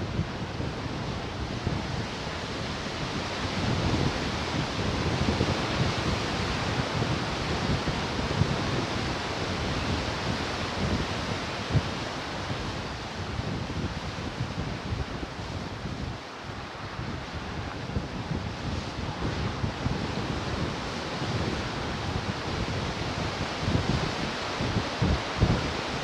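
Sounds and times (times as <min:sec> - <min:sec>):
ocean surf washing ashore: 0:00.0 - 0:26.0
wind buffeting microphone: 0:00.0 - 0:26.0.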